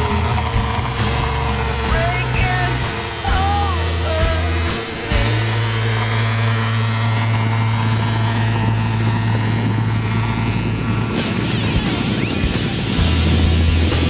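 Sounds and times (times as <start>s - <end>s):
pulse-jet engine drone: 0.0s - 14.0s.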